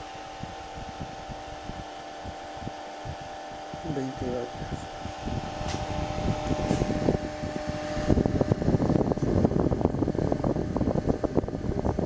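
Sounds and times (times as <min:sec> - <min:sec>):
cooling fan running: 0:00.0 - 0:12.0
wind noise on microphone: 0:00.0 - 0:12.0.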